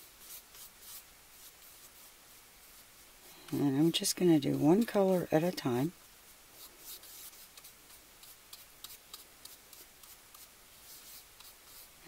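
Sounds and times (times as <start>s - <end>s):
paintbrush scratching in paint: 0.0s - 5.5s, 6.3s - 12.0s.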